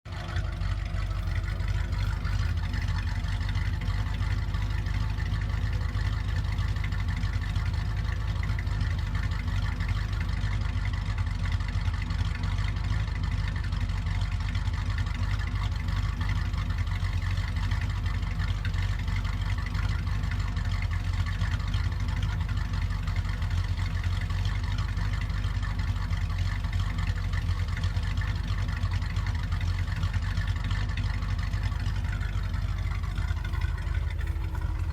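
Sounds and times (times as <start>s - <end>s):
car engine running steadily: 0.0s - 34.9s.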